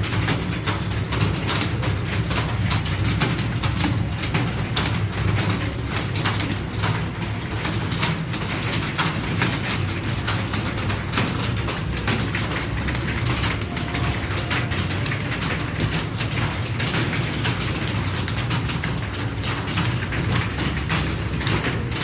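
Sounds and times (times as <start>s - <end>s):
keyboards typing clatter: 0.0s - 22.0s.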